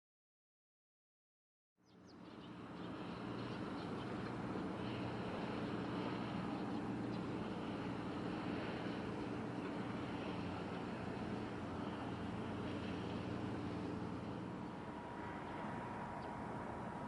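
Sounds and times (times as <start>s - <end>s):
ship engine low drone: 1.9s - 17.0s.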